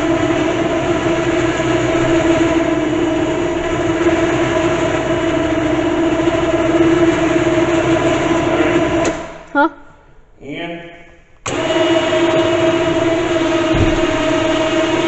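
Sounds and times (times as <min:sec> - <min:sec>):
electric winch motor whining: 0:00.0 - 0:09.4, 0:11.4 - 0:15.0.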